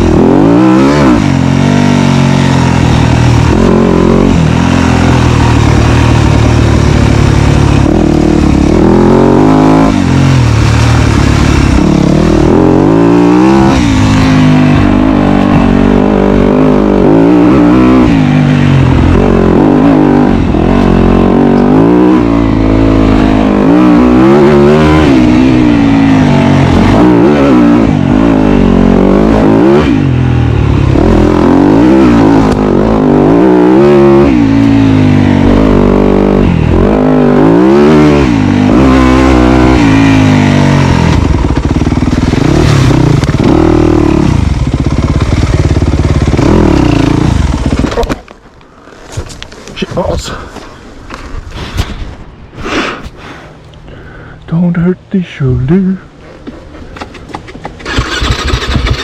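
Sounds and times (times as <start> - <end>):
dirt bike engine revving: 0.0 - 48.2, 57.2 - 59.0.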